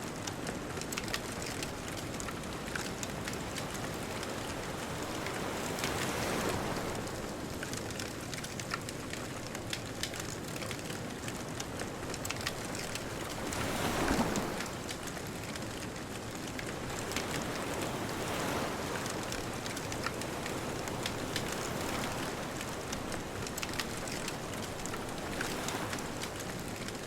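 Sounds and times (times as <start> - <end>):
bonfire crackling and popping: 0.1 - 27.0.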